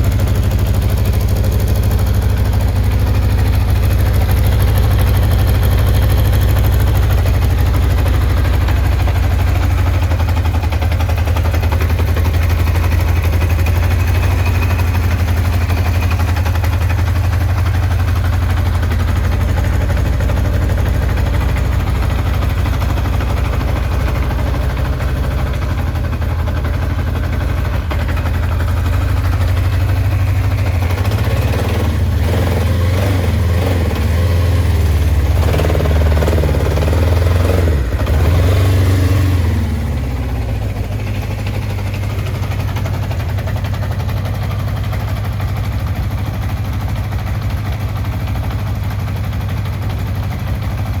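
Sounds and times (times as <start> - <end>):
motorcycle engine idling and revving: 0.0 - 51.0.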